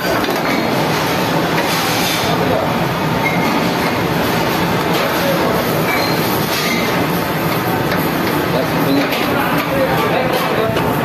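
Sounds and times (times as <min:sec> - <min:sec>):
gas burner roaring: 0:00.0 - 0:11.0.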